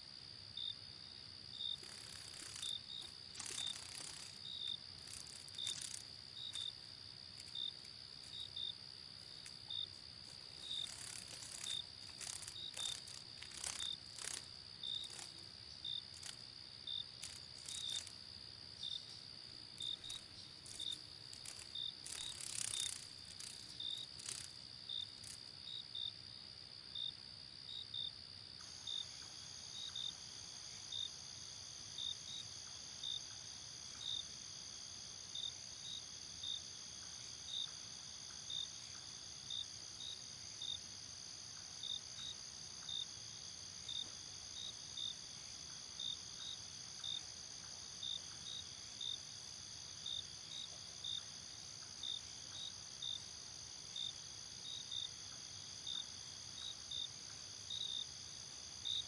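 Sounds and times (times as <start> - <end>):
crickets chirping: 0.0 - 59.0
high-pitched insect trill: 0.0 - 59.0.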